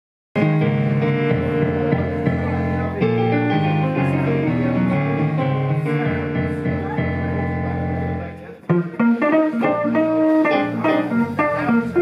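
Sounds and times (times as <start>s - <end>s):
electric guitar chords: 0.4s - 12.0s
keyboard: 0.4s - 12.0s
walking bass line: 0.4s - 12.0s.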